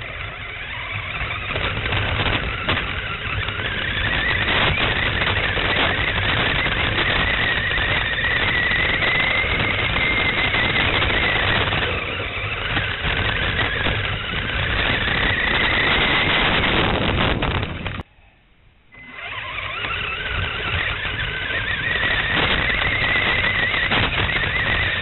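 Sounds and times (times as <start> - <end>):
electric motor and gears whining: 0.0 - 18.1, 18.9 - 25.0
loud rough noise: 0.0 - 18.1, 18.9 - 25.0.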